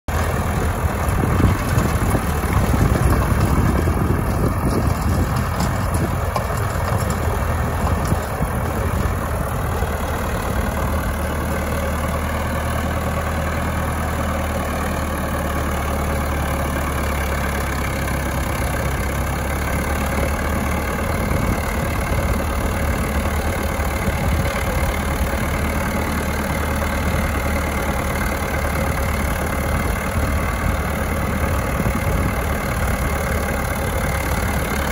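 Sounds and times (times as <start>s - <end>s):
tractor engine droning: 0.1s - 34.9s.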